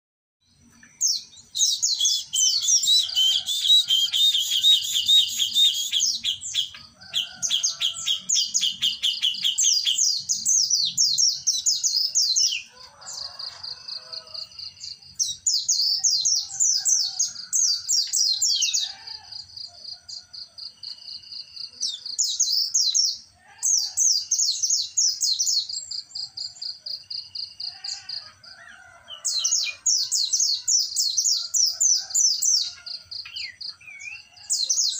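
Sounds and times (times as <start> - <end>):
songbirds trilling and chattering: 0.4 - 34.9.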